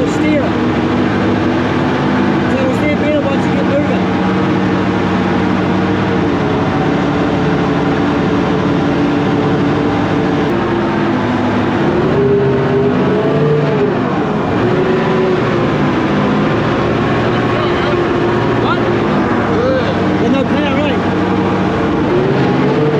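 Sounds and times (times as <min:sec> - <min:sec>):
boat engine revving: 0:00.0 - 0:22.9.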